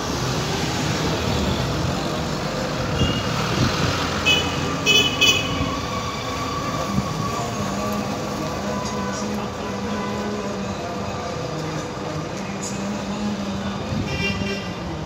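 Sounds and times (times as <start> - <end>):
street noise: 0.0 - 15.0
tram humming: 0.0 - 15.0.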